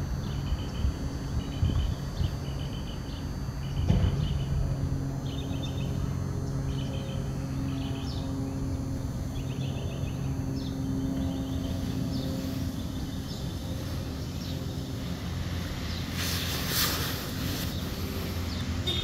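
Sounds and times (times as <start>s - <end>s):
low engine-like hum: 0.0s - 19.0s
small birds trilling: 0.2s - 19.0s.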